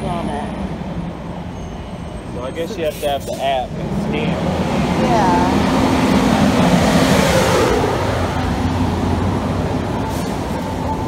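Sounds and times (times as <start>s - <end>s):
bus diesel engine running: 0.0s - 11.0s
street traffic: 0.0s - 11.0s.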